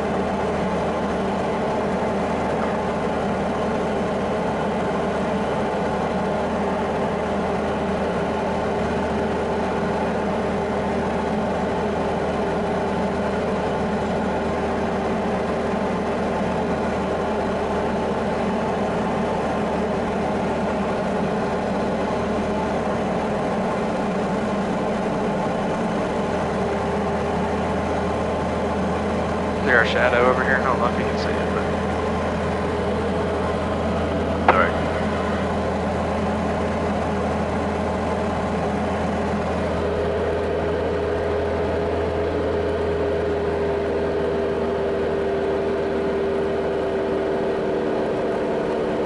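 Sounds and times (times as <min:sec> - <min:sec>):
propeller plane engine droning: 0:00.0 - 0:49.0.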